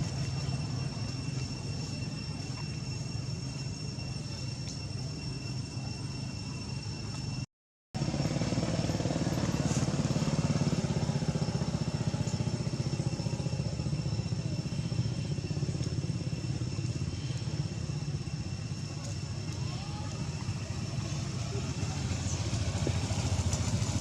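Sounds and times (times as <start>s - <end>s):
small engine running steadily: 0.0s - 7.4s, 8.0s - 24.0s.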